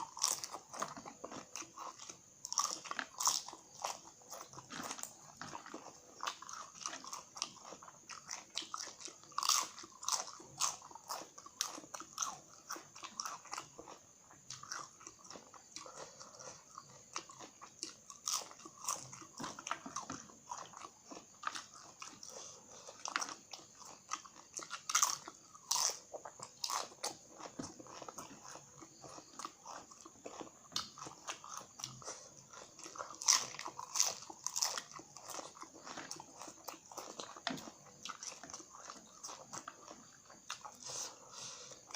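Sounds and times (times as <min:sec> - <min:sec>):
chips crunching while chewed: 0:00.0 - 0:41.9.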